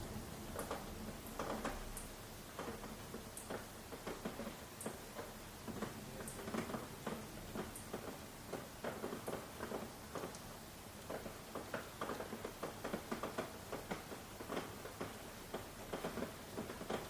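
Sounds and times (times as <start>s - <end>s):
rain pattering and dripping: 0.0s - 17.0s.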